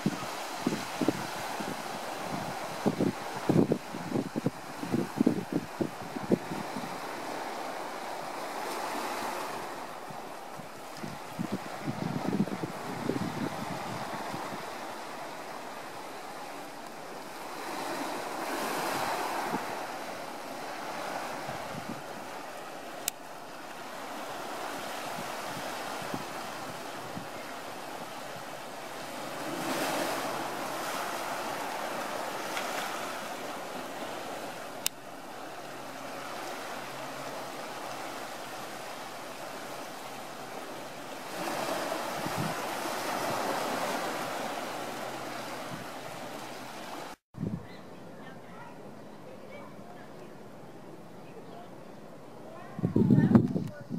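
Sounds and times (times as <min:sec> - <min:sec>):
surf washing against rocks: 0:00.0 - 0:47.2.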